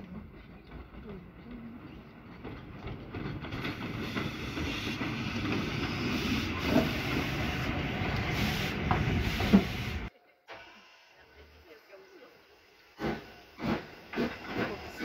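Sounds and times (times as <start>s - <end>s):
steam locomotive hissing: 1.2s - 15.0s.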